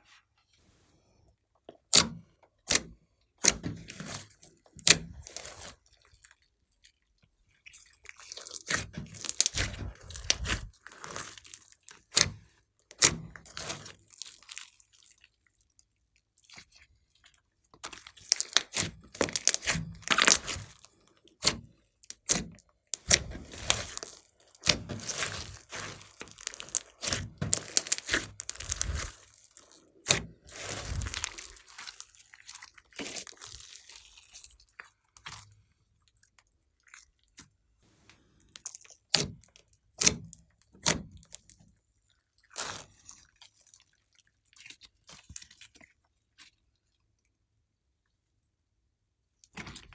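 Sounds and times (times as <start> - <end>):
slime squishing by hand: 1.7 - 41.6, 42.2 - 47.1, 49.5 - 49.9.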